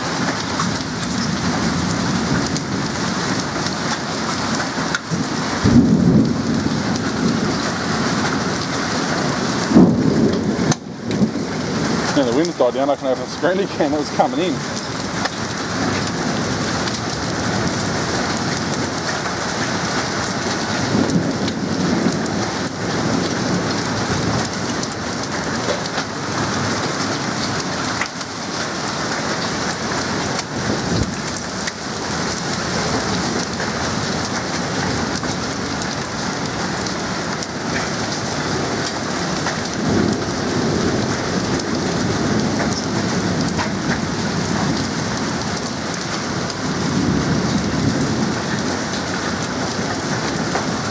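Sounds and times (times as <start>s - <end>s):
hailstones ticking: 0.0s - 50.9s
heavy rain hissing: 0.0s - 50.9s.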